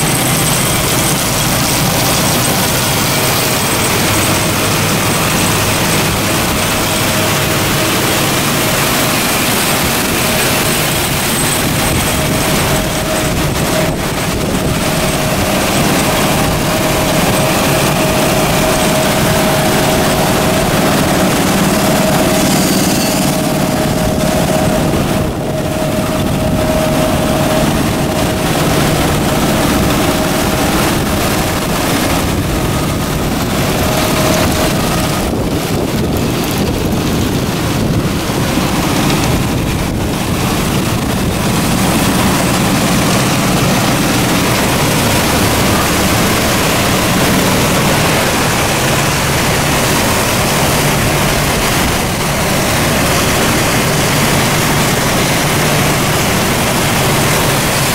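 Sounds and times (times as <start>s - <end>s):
faint machine whine: 0.0s - 57.9s
machinery rumble: 0.0s - 57.9s
water spraying and sluicing: 0.0s - 57.9s
wet sand churning: 0.0s - 57.9s.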